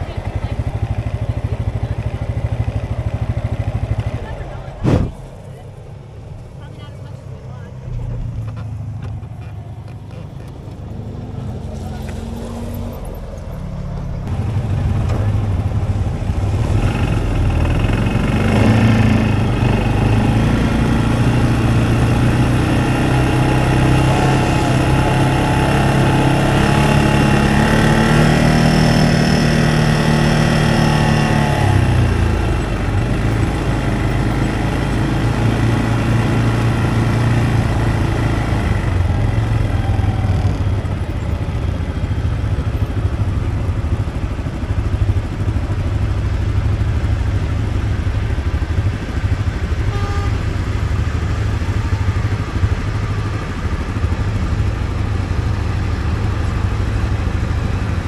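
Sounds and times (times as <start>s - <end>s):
vehicle engine running under load: 0.0s - 58.0s.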